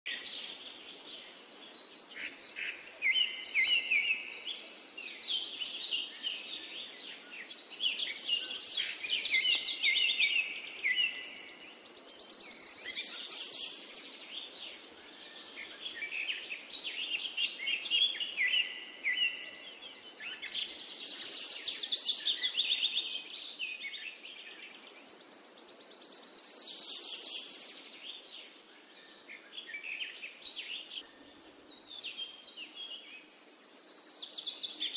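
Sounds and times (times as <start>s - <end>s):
faint hiss: 0.1s - 34.9s
songbirds chirping and trilling: 0.1s - 34.9s.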